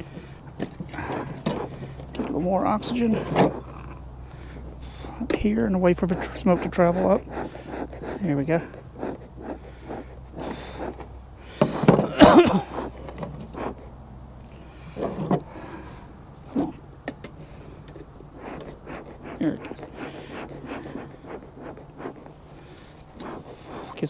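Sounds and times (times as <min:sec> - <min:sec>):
bellows wheezy puffs of air: 0:00.0 - 0:05.3, 0:06.0 - 0:13.9, 0:17.4 - 0:24.0.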